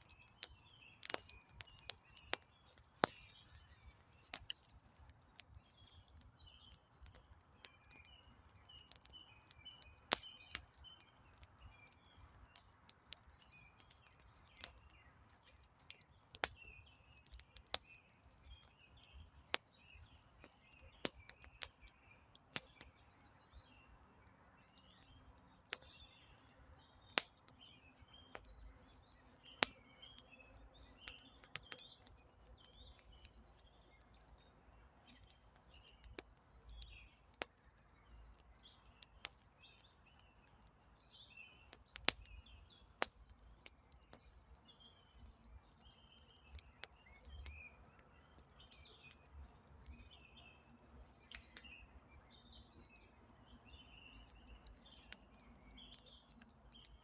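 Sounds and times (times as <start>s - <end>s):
campfire crackling and popping: 0.0s - 57.0s
small birds chirping: 0.0s - 57.0s.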